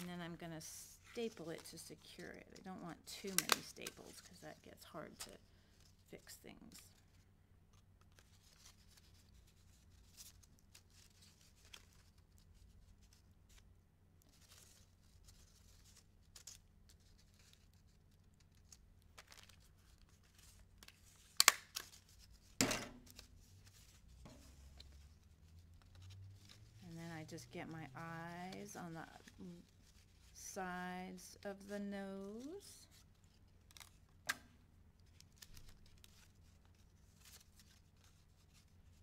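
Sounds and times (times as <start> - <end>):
paper rustling: 6.7 - 34.3, 35.0 - 39.0.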